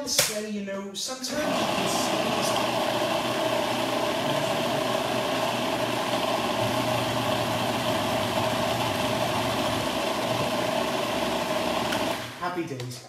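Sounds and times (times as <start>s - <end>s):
food processor motor running: 1.4s - 12.4s.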